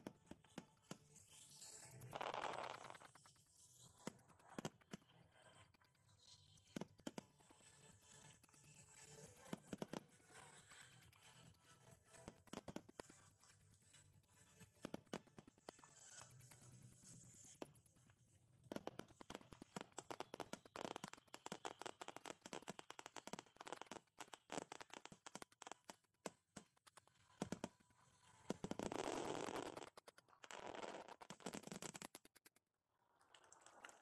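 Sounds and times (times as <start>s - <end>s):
crackling firework sparks: 0.0s - 32.5s.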